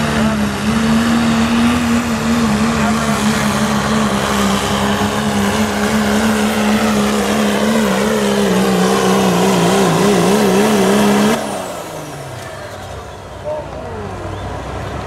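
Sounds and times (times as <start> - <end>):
diesel truck engine at full throttle: 0.0 - 15.0.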